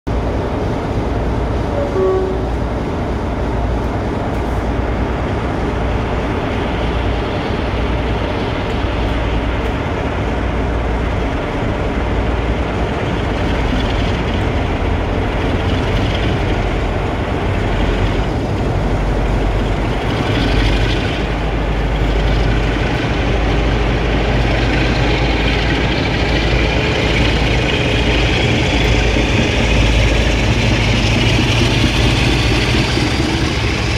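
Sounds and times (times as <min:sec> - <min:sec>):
diesel locomotive engines idling: 0:00.1 - 0:33.9
locomotive engine climbing whine: 0:00.1 - 0:33.9.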